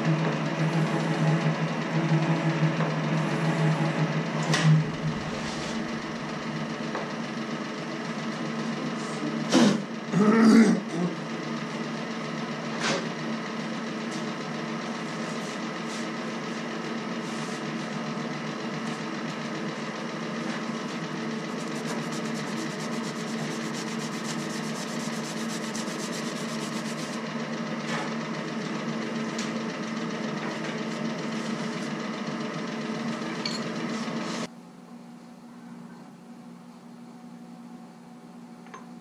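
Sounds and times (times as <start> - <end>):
metal shaper machine hum: 0.0 - 10.2, 13.4 - 34.5.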